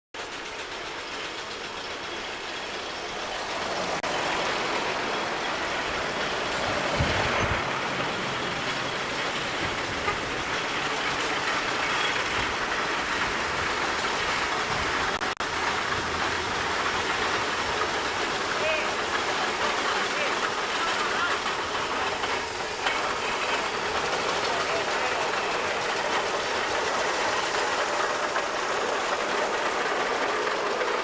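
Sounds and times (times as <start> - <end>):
iron rolls rumbling: 0.2 - 31.0
steam engine chuffing: 0.2 - 31.0.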